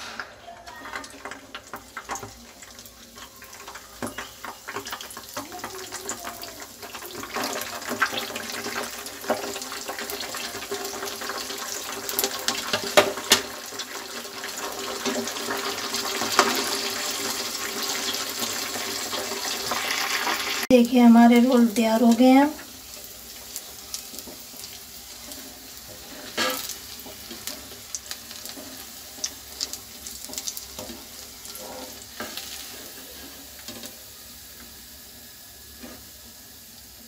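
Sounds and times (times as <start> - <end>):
food deep-frying in hot oil: 0.0 - 37.0.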